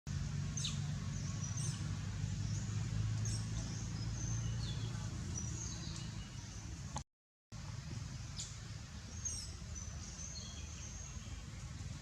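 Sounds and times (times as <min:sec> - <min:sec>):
birds chirping: 0:00.1 - 0:07.0, 0:07.9 - 0:12.0.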